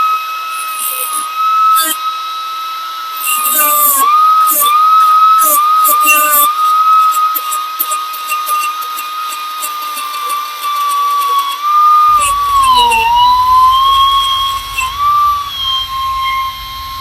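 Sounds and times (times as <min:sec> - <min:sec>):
die grinder whining: 0:00.0 - 0:17.0
grinding wheel crackle on steel: 0:03.1 - 0:17.0.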